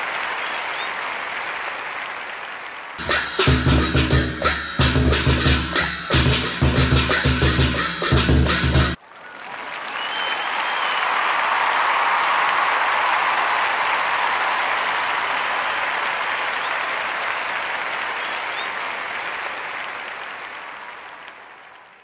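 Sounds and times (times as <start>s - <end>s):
crowd applause: 0.0s - 22.0s.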